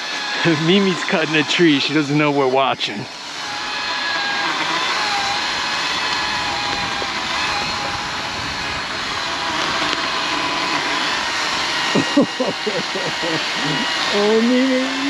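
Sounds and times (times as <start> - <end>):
battery chainsaw cutting wood: 0.0 - 15.0.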